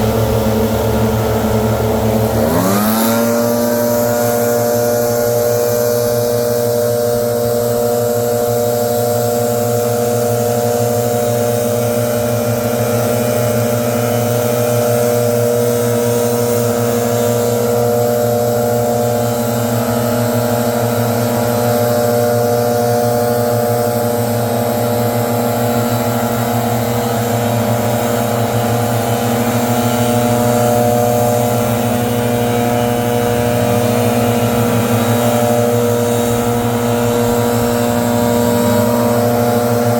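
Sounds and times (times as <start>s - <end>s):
leaf blower running: 0.0s - 39.9s.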